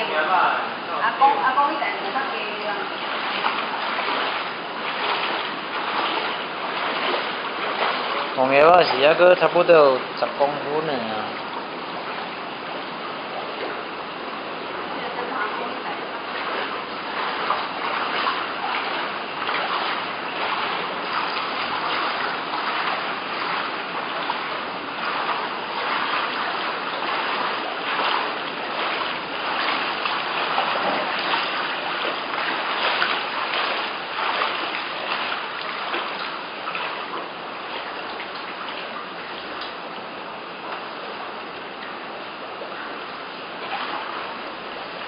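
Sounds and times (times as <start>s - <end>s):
people wading through water: 0.0s - 45.0s.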